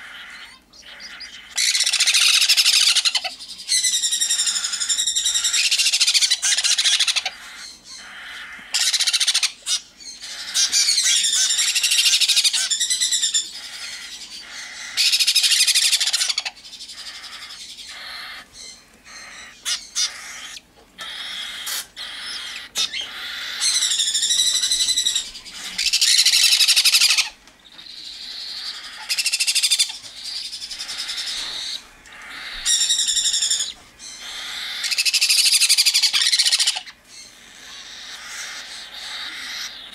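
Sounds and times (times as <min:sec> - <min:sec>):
baby birds begging calls: 0:00.0 - 0:39.9.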